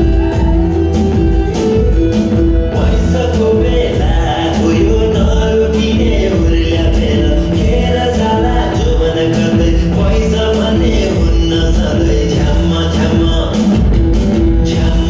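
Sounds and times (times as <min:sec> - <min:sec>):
dance music with steady beat: 0:00.0 - 0:15.0
person singing: 0:00.0 - 0:15.0.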